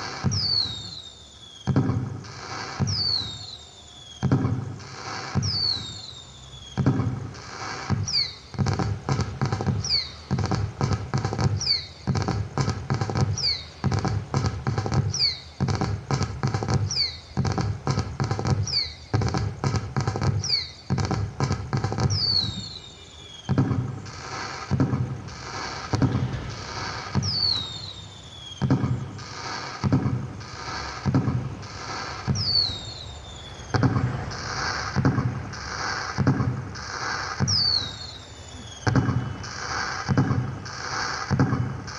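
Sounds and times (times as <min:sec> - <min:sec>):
falling whistle: 0:00.0 - 0:12.2, 0:13.1 - 0:15.8, 0:16.4 - 0:17.7, 0:18.3 - 0:19.4, 0:20.4 - 0:21.2, 0:21.9 - 0:41.9
firework bangs and crackle: 0:00.0 - 0:41.9.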